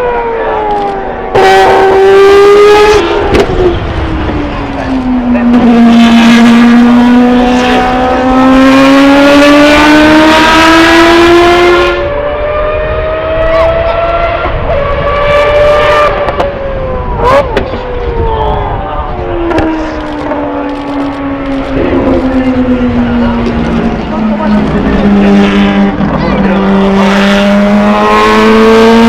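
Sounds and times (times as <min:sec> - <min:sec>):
rotary engine revving high: 0:00.0 - 0:29.0.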